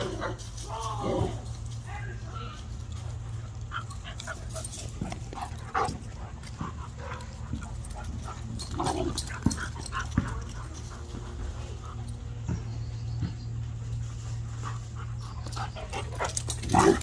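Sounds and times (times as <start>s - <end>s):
steady low hum: 0.0s - 17.0s
puppies moving about: 2.6s - 17.0s.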